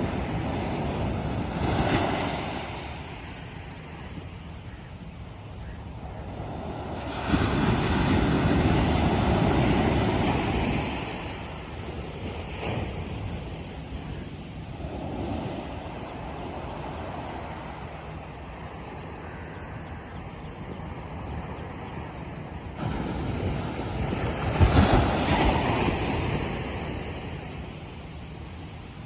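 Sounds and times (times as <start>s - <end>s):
ocean waves breaking: 0.0s - 4.5s, 6.0s - 19.7s, 21.3s - 29.0s.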